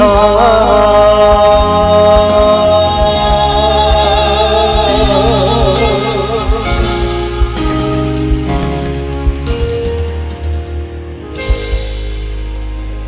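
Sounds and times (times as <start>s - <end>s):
pop ballad backing track: 0.0s - 13.0s.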